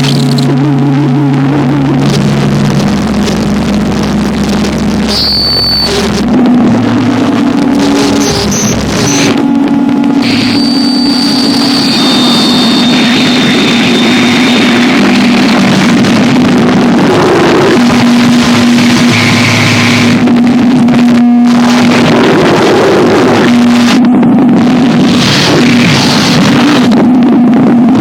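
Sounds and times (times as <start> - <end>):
low drone: 0.0 - 28.0
distorted hiss noise music: 0.1 - 28.0.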